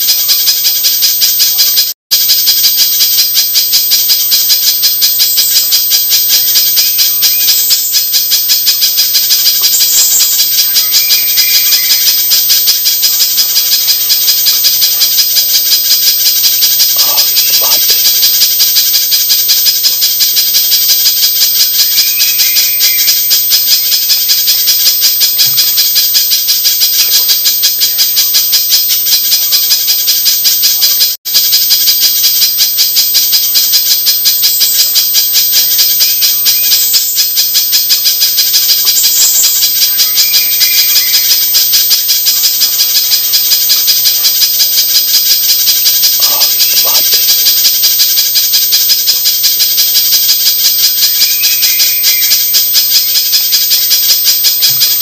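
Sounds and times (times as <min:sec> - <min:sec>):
rapid high bird chip notes: 0:00.0 - 0:55.0.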